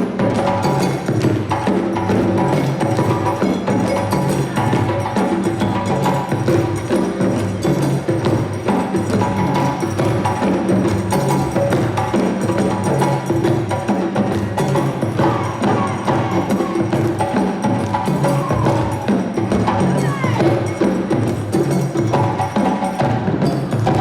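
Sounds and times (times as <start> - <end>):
drums playing rhythm: 0.0 - 24.0
wooden percussion melody: 0.0 - 24.0.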